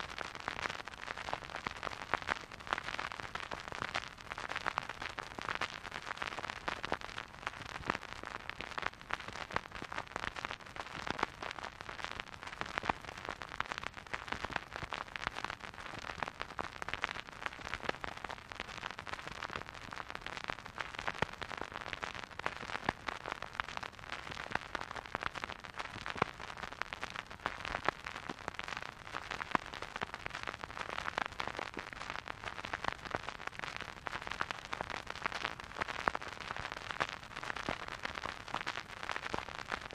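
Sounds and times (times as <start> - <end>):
vinyl record crackle and hiss: 0.0 - 39.9.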